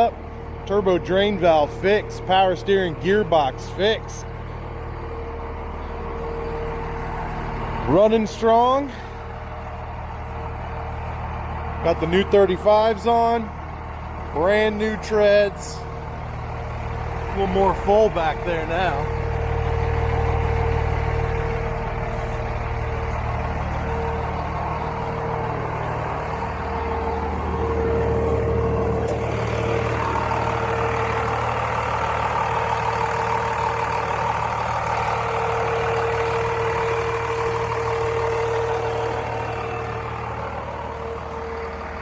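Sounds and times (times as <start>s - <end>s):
diesel engine droning with whine: 0.0s - 42.0s.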